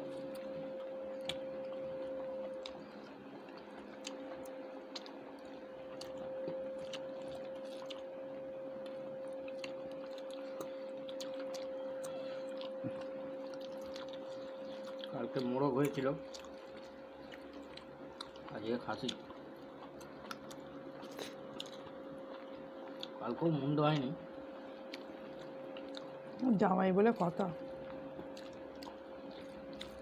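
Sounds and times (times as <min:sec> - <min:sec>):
chewing: 0:00.0 - 0:08.1, 0:08.8 - 0:23.2, 0:24.6 - 0:26.4, 0:27.2 - 0:30.0
faint hum: 0:00.0 - 0:30.0.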